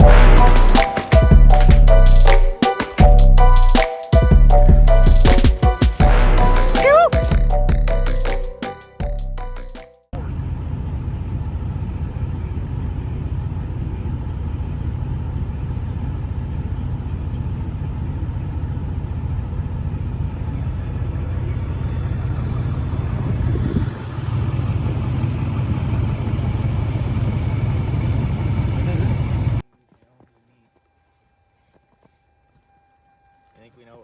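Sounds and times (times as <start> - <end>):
vehicle engine running: 0.0 - 8.3, 10.2 - 29.6.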